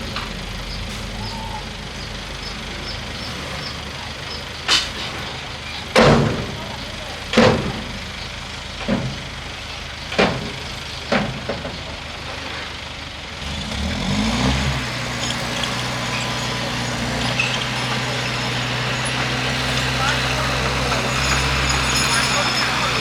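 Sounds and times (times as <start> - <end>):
bulldozer diesel engine revving: 0.0 - 23.0.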